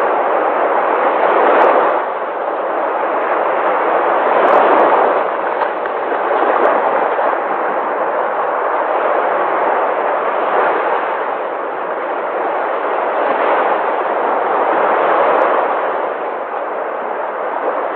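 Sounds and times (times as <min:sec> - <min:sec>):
sea waves breaking: 0:00.0 - 0:17.9.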